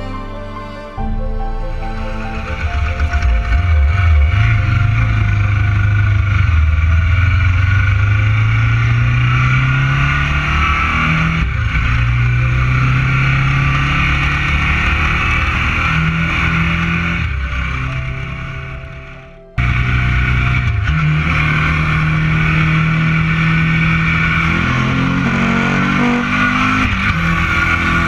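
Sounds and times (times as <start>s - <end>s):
motorcycle engine accelerating: 1.7s - 28.0s.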